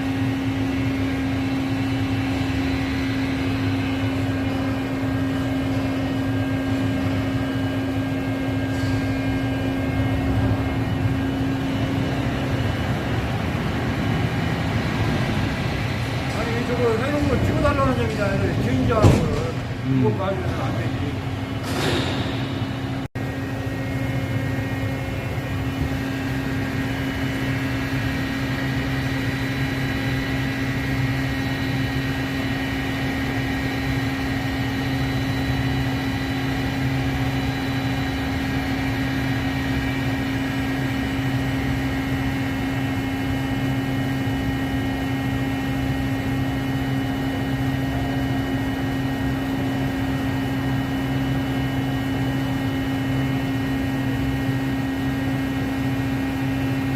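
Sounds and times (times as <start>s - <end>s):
machine mechanical hum: 0.0s - 56.9s.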